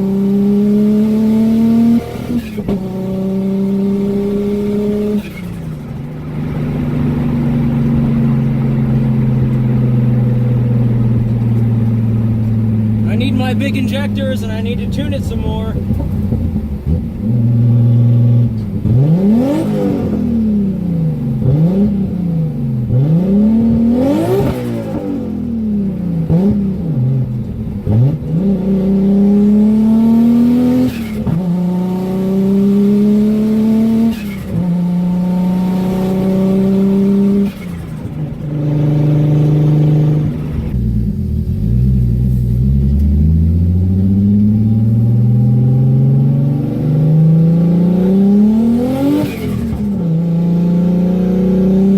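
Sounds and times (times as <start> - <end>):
engine revving through gears: 0.0 - 51.9.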